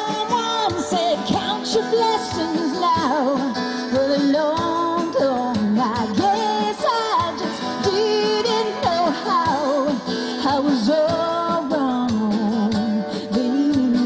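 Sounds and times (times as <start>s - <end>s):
acoustic guitar: 0.0s - 14.0s
drums: 0.0s - 14.0s.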